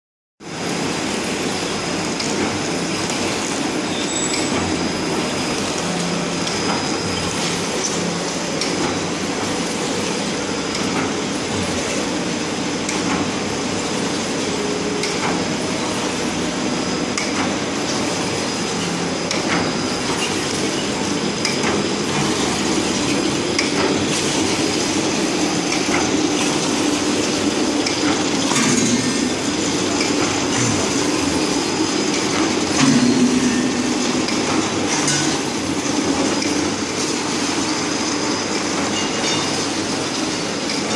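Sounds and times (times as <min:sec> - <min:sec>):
machine mechanical clatter: 0:00.6 - 0:40.9.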